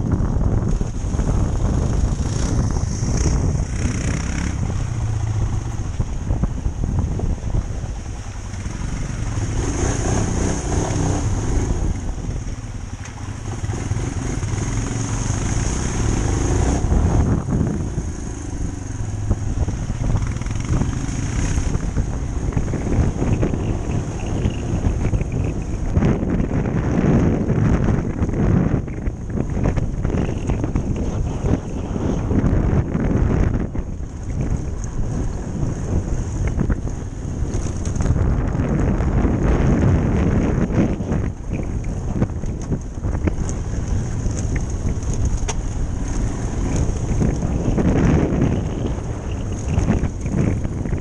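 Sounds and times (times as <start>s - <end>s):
motorcycle engine rumbling: 0.0s - 51.0s
wind noise on microphone: 0.0s - 51.0s.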